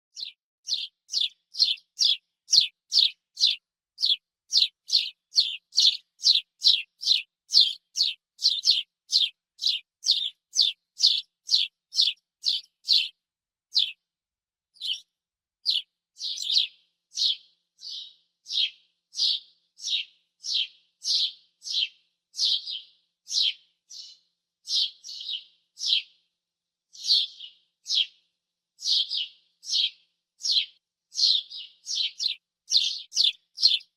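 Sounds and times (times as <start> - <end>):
sparrow chirping: 0.1 - 14.0, 14.8 - 26.2, 26.9 - 28.2, 28.8 - 33.9.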